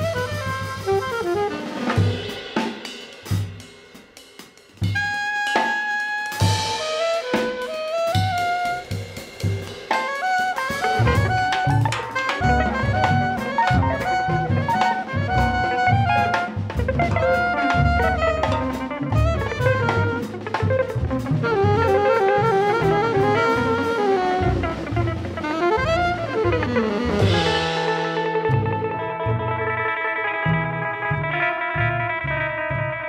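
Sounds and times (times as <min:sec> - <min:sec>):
walking bass: 0:00.0 - 0:02.4, 0:06.4 - 0:33.0
horn melody: 0:00.0 - 0:03.6, 0:04.8 - 0:33.0
jazz band playing: 0:00.0 - 0:33.0.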